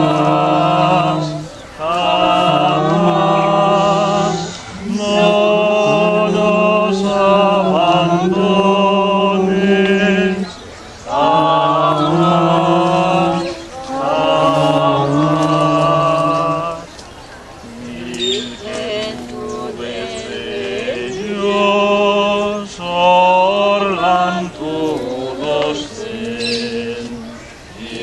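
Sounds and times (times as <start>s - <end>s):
men singing a chant: 0.0s - 16.9s, 17.6s - 28.0s.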